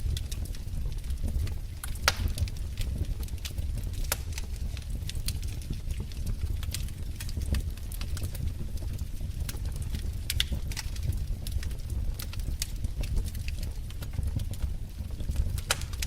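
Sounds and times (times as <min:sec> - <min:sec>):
fire snaps and pops: 0:00.0 - 0:16.0
wood fire crackling: 0:00.0 - 0:16.0.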